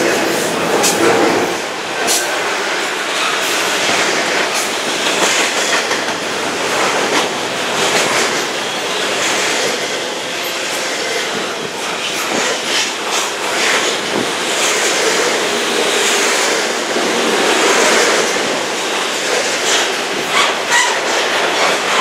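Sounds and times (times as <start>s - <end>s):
freight train wheels rumbling: 0.0s - 22.0s
wheels clicking over rail joints: 0.8s - 22.0s.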